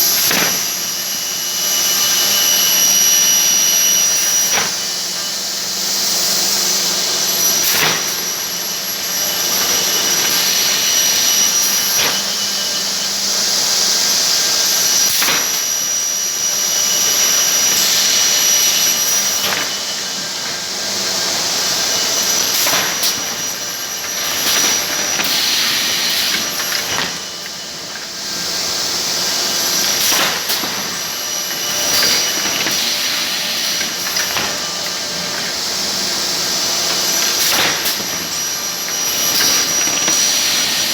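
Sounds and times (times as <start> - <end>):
high-pitched machine whines: 0.0 - 40.9
loud machine noise: 0.0 - 40.9.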